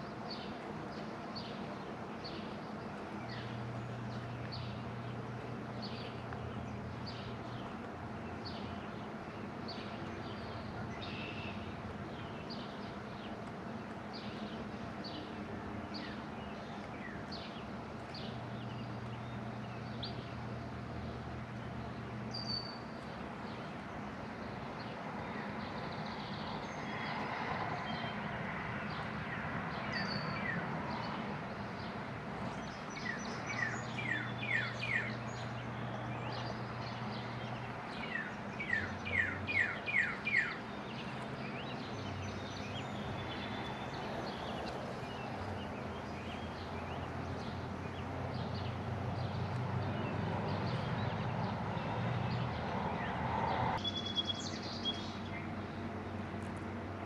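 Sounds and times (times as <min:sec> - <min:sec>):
small birds chirping: 0:00.0 - 0:56.8.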